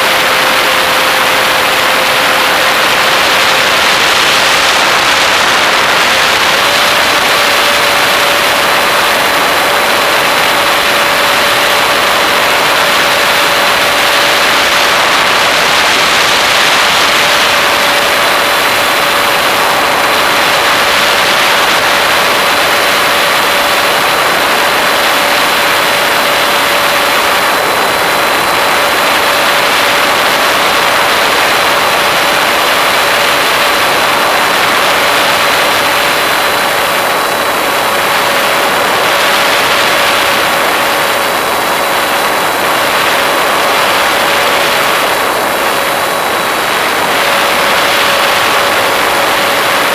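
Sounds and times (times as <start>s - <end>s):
model aeroplane motor whine: 0.0s - 49.9s.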